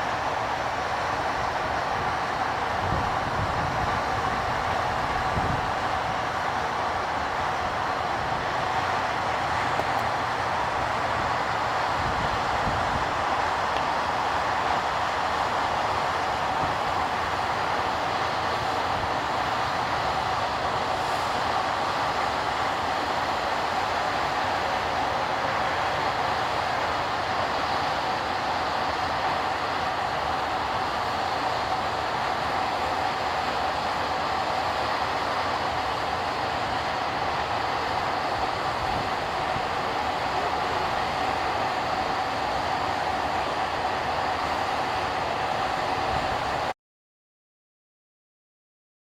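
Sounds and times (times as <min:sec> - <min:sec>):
thin steady whine: 0:00.0 - 0:46.7.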